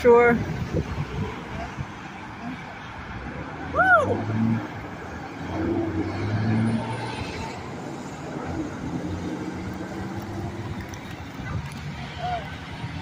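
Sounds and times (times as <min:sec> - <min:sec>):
drone of distant traffic: 0:00.0 - 0:13.0
passing vehicle engine hum: 0:00.4 - 0:13.0.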